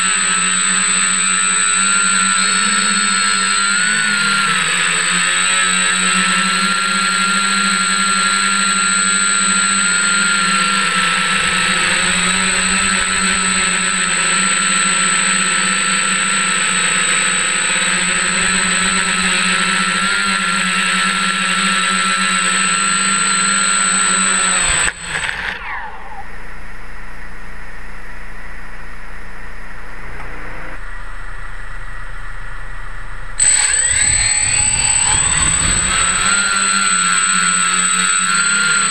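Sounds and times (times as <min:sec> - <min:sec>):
drone motors whining: 0:00.0 - 0:26.8, 0:29.8 - 0:38.9.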